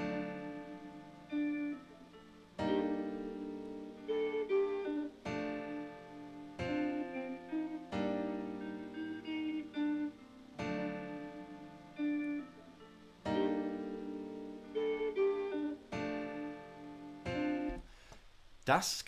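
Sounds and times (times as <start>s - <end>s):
jazzy guitar chords: 0.0s - 17.8s.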